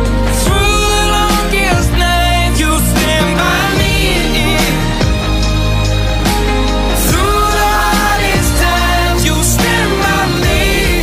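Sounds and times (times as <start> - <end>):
love song with singer: 0.0 - 11.0
steady bass: 0.0 - 11.0.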